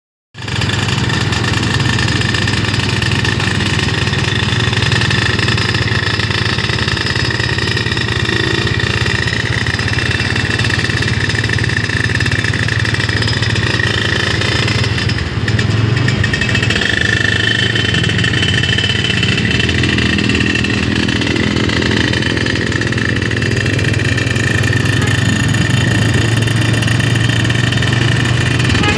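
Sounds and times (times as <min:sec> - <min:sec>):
motorcycle engine idling: 0:00.4 - 0:28.9.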